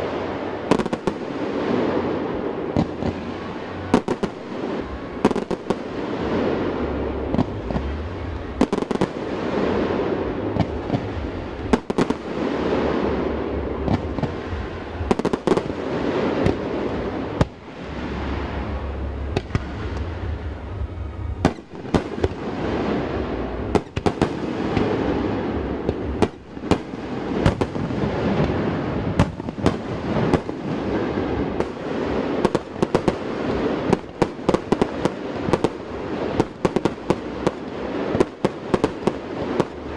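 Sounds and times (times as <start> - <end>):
continuous rumble: 0.0 - 39.9.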